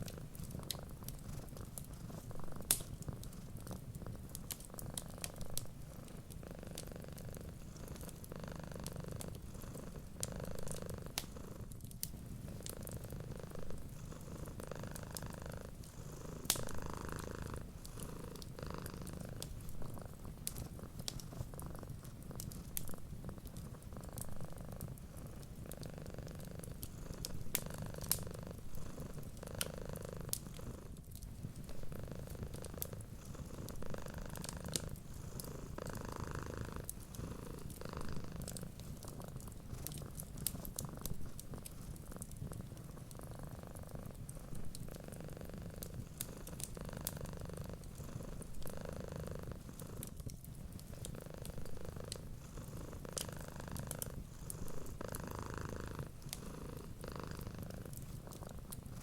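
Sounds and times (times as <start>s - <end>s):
cats purring: 0.0s - 59.0s
wood fire popping and crackling: 0.0s - 59.0s.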